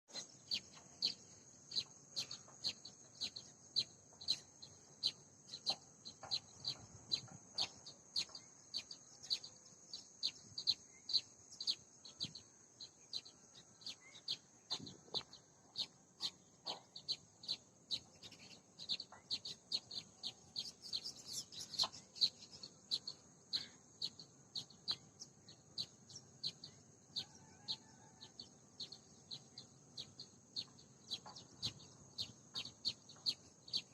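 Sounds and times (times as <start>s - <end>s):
bird chirping: 0.1s - 33.9s.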